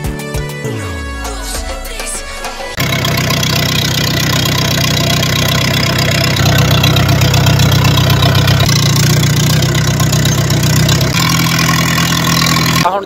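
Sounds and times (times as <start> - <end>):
tractor diesel engine running: 1.8 - 13.0.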